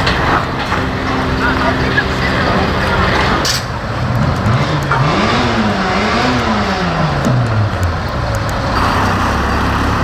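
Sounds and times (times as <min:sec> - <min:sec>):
racing car engine revving: 0:00.0 - 0:10.0.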